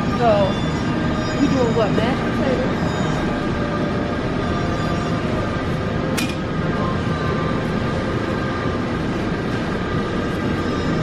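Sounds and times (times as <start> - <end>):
faint steady hums: 0.0 - 11.0.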